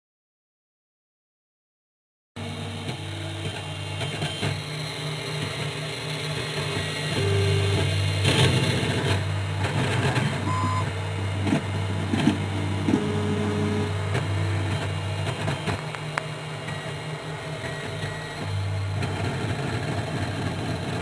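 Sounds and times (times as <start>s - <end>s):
printer hum: 2.4s - 21.0s
stepper motor whirring: 2.4s - 21.0s.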